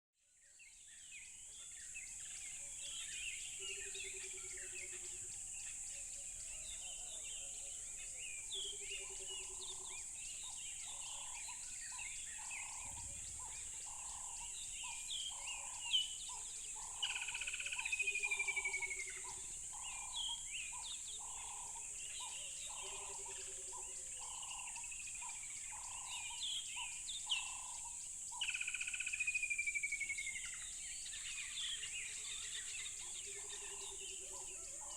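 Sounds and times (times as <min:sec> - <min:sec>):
high insect drone: 0:01.7 - 0:34.9
birds chirping and calling: 0:02.8 - 0:29.3, 0:30.1 - 0:34.9.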